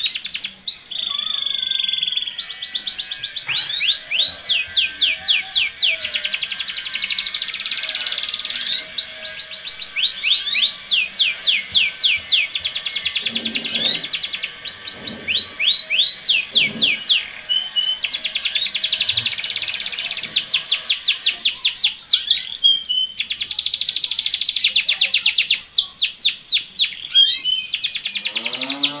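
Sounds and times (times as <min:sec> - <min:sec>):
canaries singing: 0:00.0 - 0:29.0.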